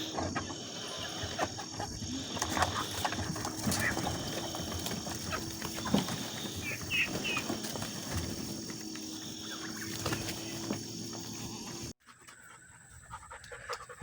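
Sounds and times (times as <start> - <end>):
chickens clucking and calling: 0.0 - 14.0.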